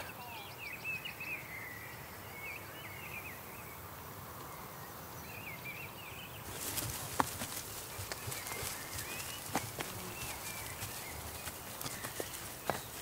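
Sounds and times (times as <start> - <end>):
faint outdoor hiss: 0.0 - 13.0
songbirds chirping: 0.0 - 13.0.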